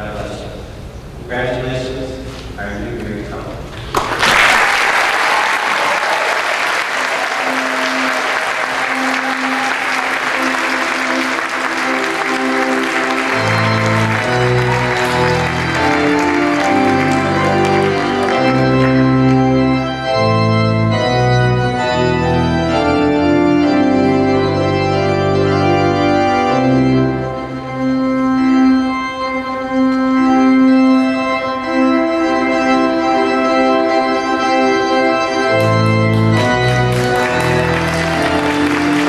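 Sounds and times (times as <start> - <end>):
organ playing chords: 0.0 - 39.0.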